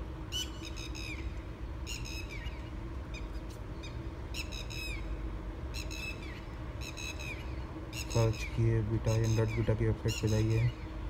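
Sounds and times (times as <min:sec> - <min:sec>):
low background rumble: 0:00.0 - 0:11.0
bird chirping phrases: 0:01.9 - 0:11.0.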